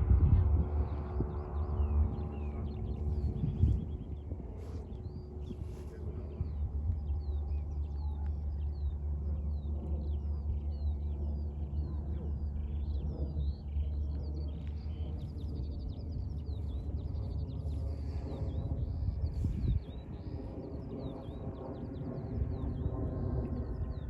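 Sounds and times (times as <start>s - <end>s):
songbirds chirping: 0.0s - 24.0s
wind on microphone: 0.0s - 24.0s.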